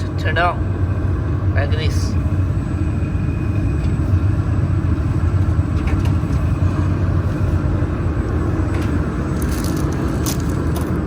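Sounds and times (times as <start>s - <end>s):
chiller and fans humming: 0.0s - 11.0s.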